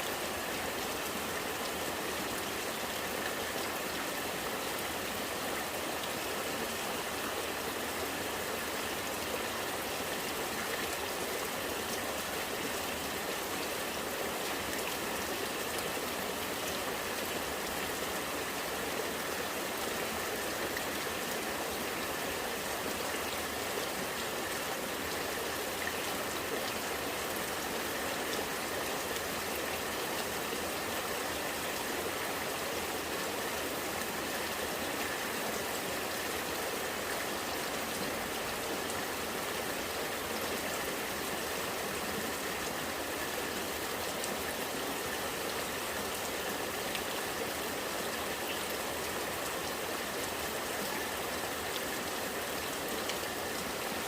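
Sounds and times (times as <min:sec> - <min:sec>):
rainwater running and gurgling: 0:00.0 - 0:54.0.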